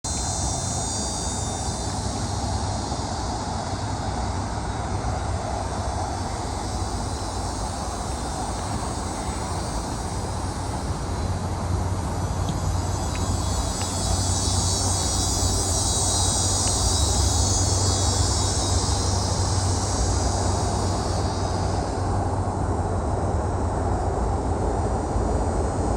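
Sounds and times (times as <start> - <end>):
high-pitched hiss: 0.0 - 23.3
distant aircraft engine drone: 0.0 - 25.9.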